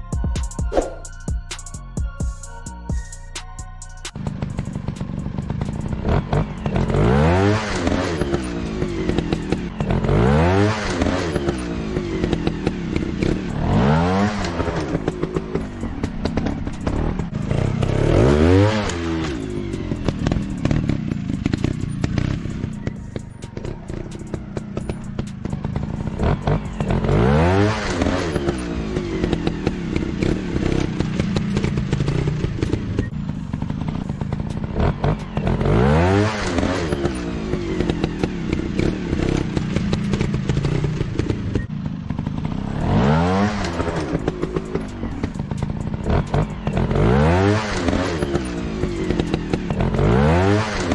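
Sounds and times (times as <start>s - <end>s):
dirt bike engines revving: 4.2s - 50.9s.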